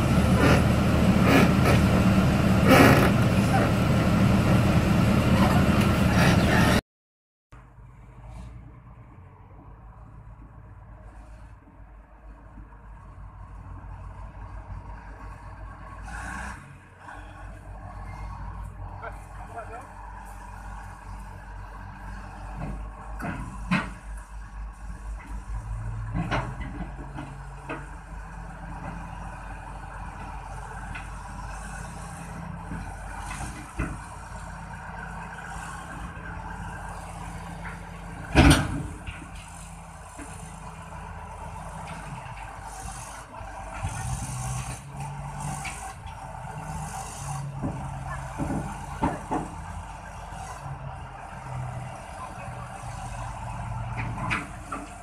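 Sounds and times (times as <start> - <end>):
bulldozer diesel engine running: 0.0 - 6.8, 12.7 - 55.0.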